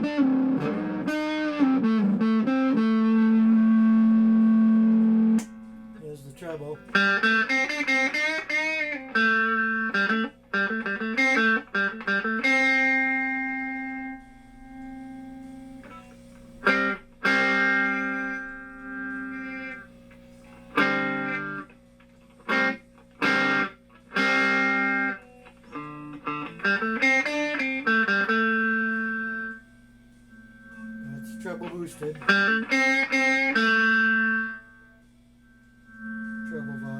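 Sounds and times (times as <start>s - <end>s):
electric guitar through amplifier: 0.0s - 36.9s.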